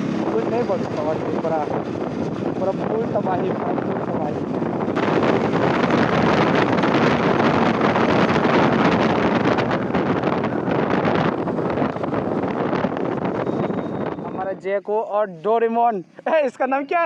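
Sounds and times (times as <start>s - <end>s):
motorcycle engine running: 0.0s - 14.3s
wind rushing over microphone: 0.0s - 14.9s.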